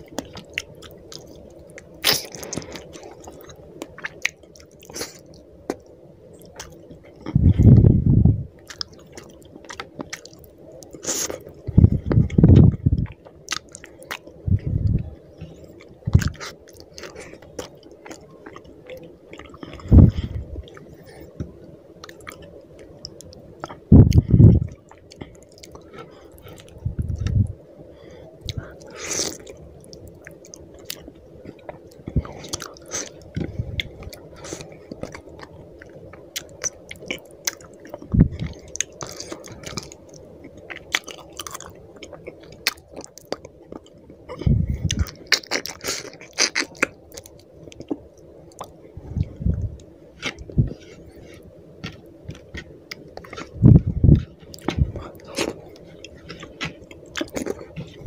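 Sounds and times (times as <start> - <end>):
wet chewing and smacking: 0.0 - 7.9, 8.6 - 27.5, 28.4 - 58.0
faint steady hum: 0.0 - 58.0.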